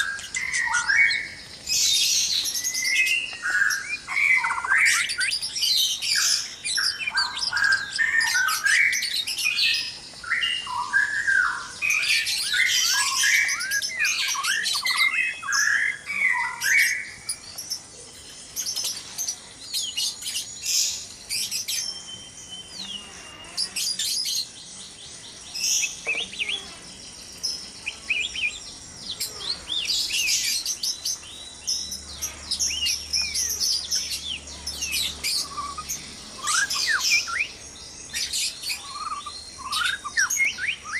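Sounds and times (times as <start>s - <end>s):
birds whistling and chipping: 0.0s - 40.9s.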